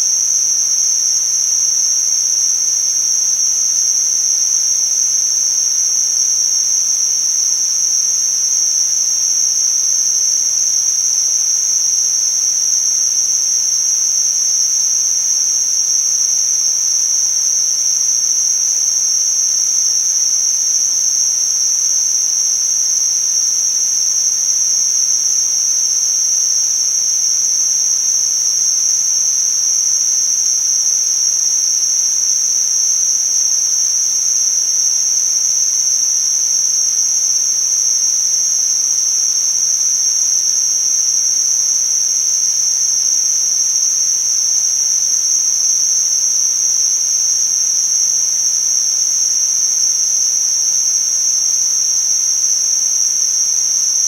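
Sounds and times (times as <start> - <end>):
steady high-pitched hiss: 0.0 - 54.0.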